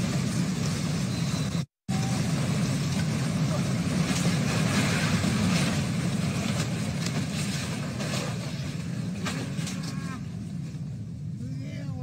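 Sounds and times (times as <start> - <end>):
mudslide debris flow roaring: 0.0 - 12.0.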